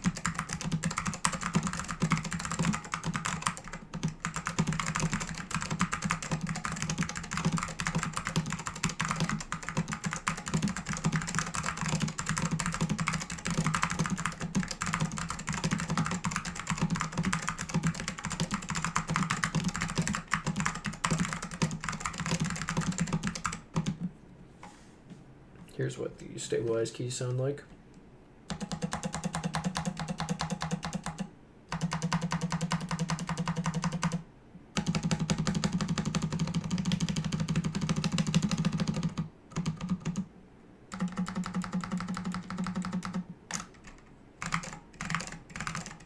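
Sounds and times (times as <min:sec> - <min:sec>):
fast typing on mechanical keyboard: 0:00.0 - 0:24.1, 0:28.5 - 0:34.2, 0:34.8 - 0:40.3, 0:40.9 - 0:46.0.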